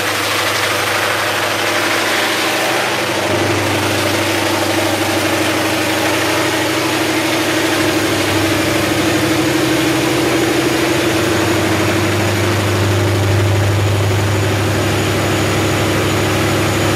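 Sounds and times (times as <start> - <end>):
diesel generator running: 0.0 - 16.9.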